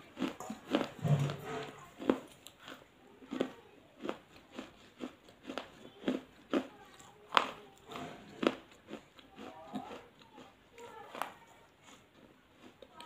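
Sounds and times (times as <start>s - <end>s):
crunching and chewing: 0.0s - 13.0s.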